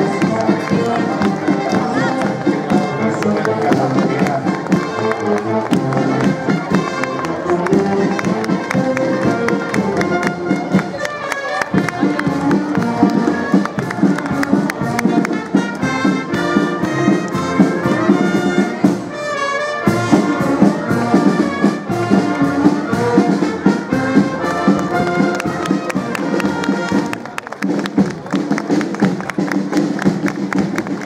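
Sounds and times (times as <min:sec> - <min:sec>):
brass band playing: 0:00.0 - 0:31.0.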